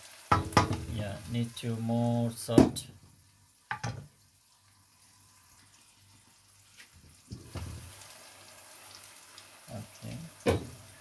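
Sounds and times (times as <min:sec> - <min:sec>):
onions sizzling in a wok: 0:00.0 - 0:11.0.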